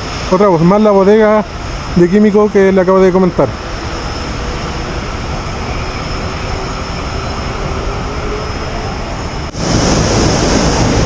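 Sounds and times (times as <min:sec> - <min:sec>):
steady rumbling roar: 0:01.1 - 0:11.0.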